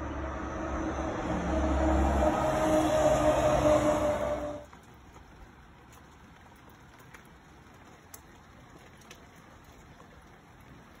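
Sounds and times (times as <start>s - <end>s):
faint steady rain: 0.0s - 11.0s.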